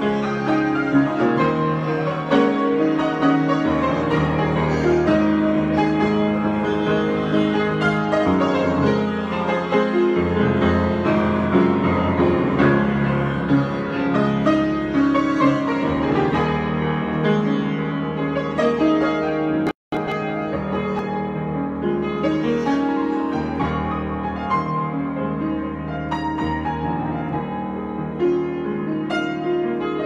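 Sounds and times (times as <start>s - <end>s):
solo piano improvisation: 0.0s - 30.0s.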